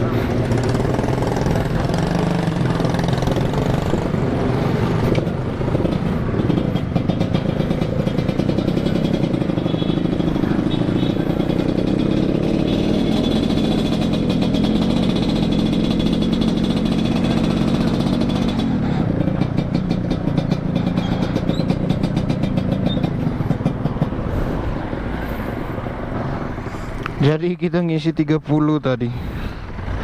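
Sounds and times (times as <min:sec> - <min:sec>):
two-stroke motorcycle engine: 0:00.0 - 0:25.0.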